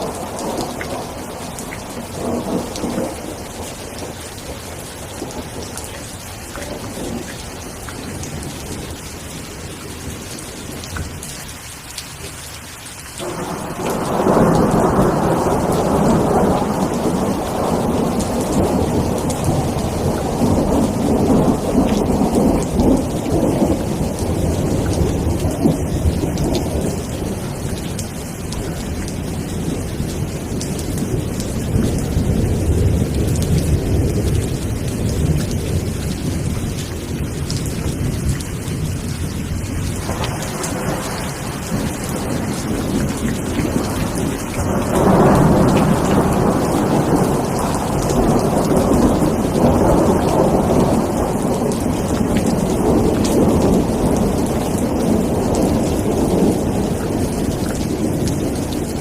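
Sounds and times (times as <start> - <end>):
low thunder rumbling: 0.0 - 11.3, 13.2 - 59.0
steady rain: 0.0 - 59.0.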